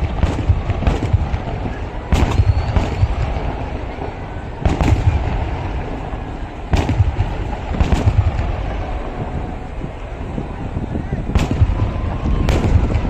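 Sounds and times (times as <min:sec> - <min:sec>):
sharp firework bangs: 0:00.0 - 0:10.1, 0:11.2 - 0:13.0
rumble of fireworks explosions: 0:00.0 - 0:13.0.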